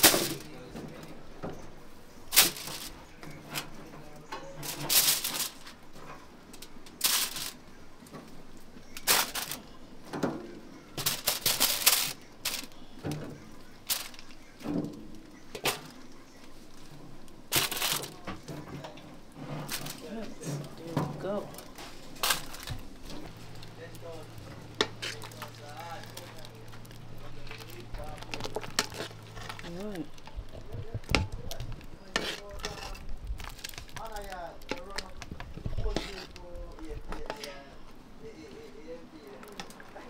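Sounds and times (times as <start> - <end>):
aluminium foil crinkling: 0.0 - 1.2, 2.3 - 10.2, 10.9 - 40.0.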